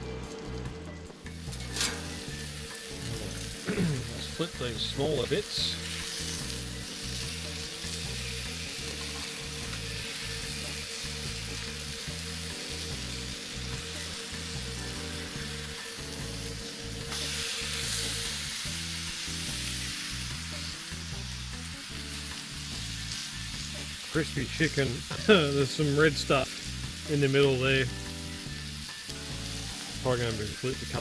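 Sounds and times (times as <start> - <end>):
chicken sizzling in hot oil: 1.1 - 31.0.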